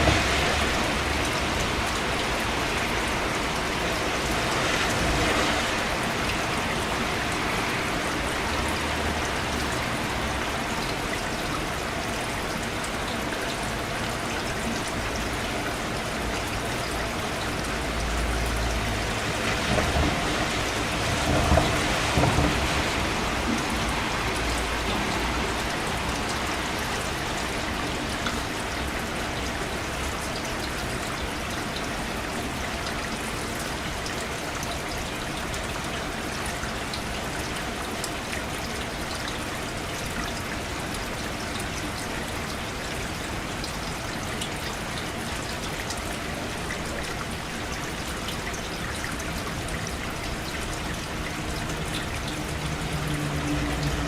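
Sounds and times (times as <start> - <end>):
steady rain: 0.0 - 54.0
water trickling and pouring: 0.0 - 54.0.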